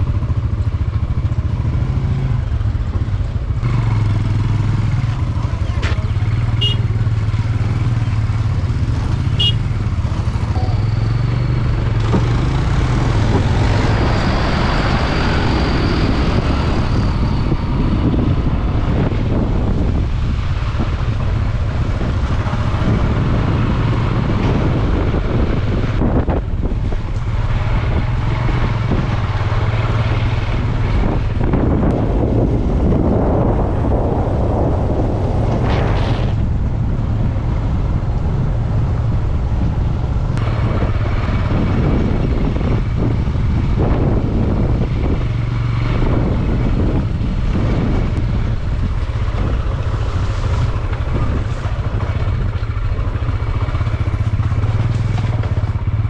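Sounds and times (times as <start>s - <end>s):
motorcycle engine running: 0.0s - 35.8s, 36.4s - 56.0s
road noise: 0.0s - 56.0s
rushing wind: 0.0s - 56.0s.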